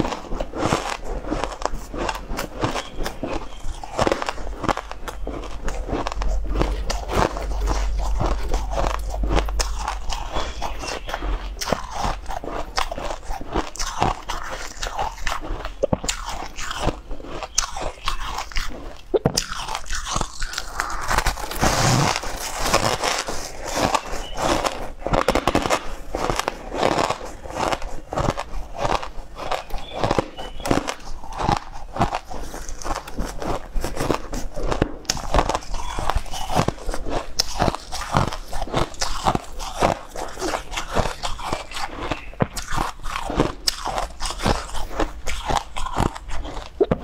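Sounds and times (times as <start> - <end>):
chewing crushed ice: 0.0 - 47.0.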